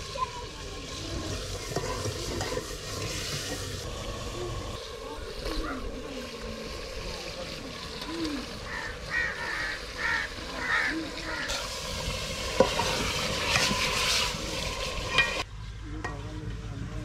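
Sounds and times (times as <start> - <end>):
meat sizzling in a pot: 0.0 - 15.5.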